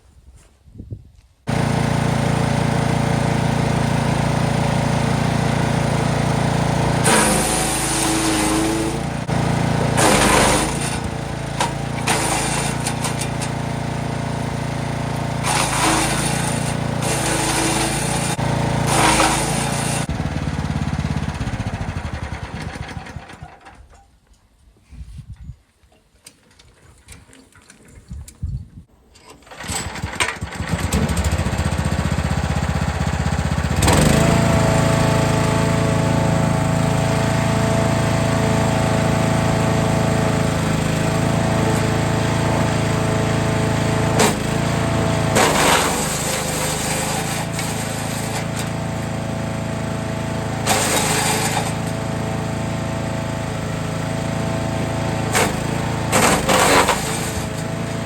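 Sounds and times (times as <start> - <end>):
wood chipper engine running: 1.5 - 23.9, 29.4 - 58.0.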